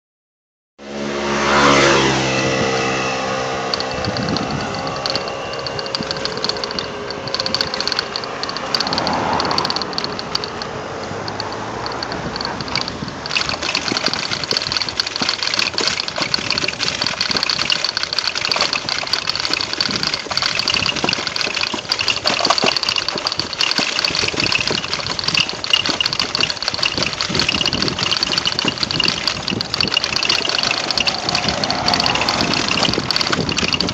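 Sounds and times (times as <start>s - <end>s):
vehicle engine running: 0.9s - 33.9s
tyres rattling over cobblestones: 2.0s - 33.9s.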